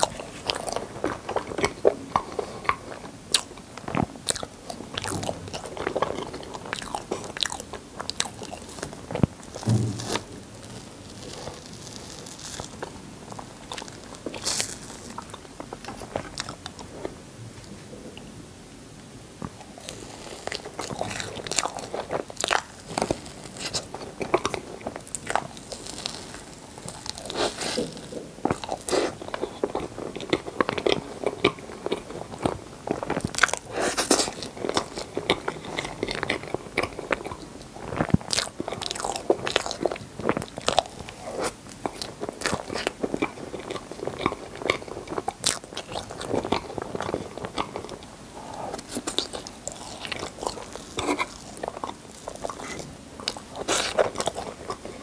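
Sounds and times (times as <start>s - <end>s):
chewing and wet mouth sounds: 0.0s - 17.2s, 19.4s - 55.0s.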